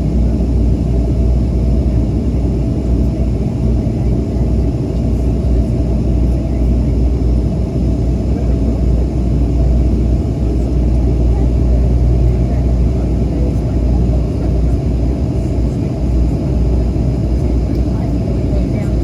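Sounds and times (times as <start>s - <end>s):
turboprop engine drone in cabin: 0.0s - 19.0s.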